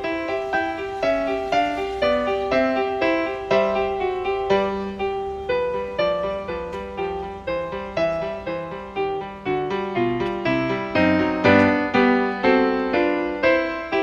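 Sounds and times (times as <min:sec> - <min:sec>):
piano notes and chords: 0:00.0 - 0:14.0.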